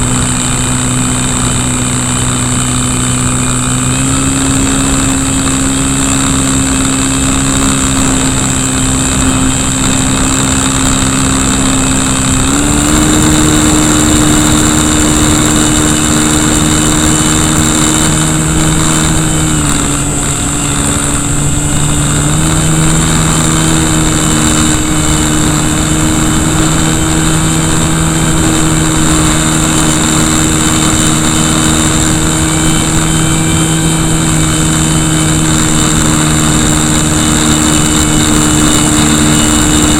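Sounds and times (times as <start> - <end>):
electric motor and propeller: 0.0 - 39.9
wind noise on microphone: 0.0 - 39.9.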